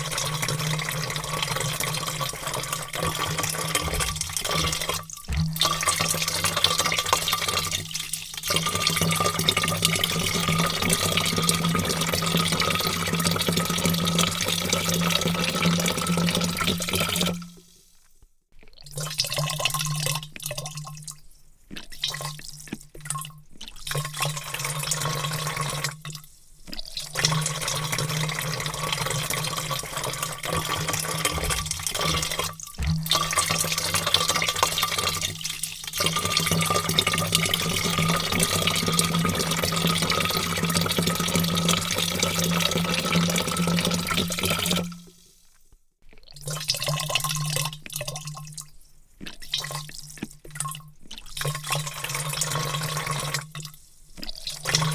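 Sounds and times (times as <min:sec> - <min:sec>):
water pouring into a vat: 0:00.0 - 0:54.9.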